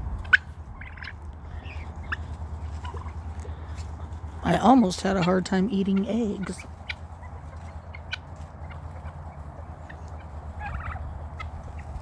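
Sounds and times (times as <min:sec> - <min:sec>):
steady low hum: 0:00.0 - 0:12.0
turkey gobbling: 0:00.1 - 0:12.0.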